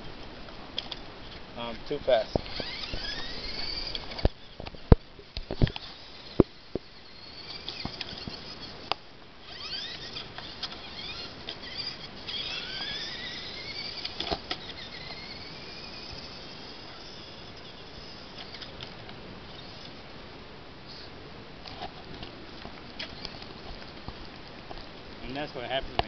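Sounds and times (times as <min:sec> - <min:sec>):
small electric motor whining: 0:00.8 - 0:20.0, 0:22.6 - 0:24.8.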